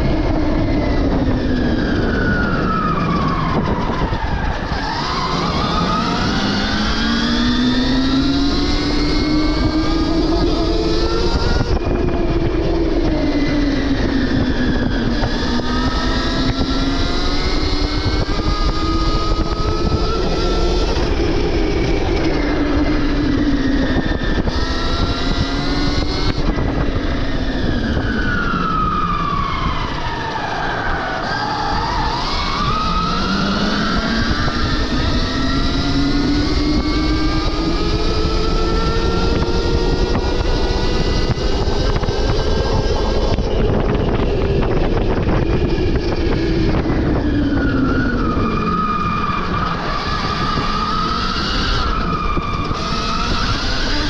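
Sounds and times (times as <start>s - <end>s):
constant rushing noise: 0.0s - 54.0s
electric motor whining: 0.0s - 54.0s.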